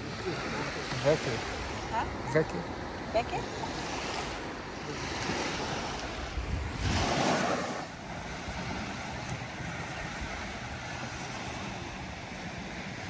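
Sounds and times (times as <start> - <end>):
small waves washing on beach: 0.0 - 13.0
wind buffeting microphone: 0.0 - 13.0.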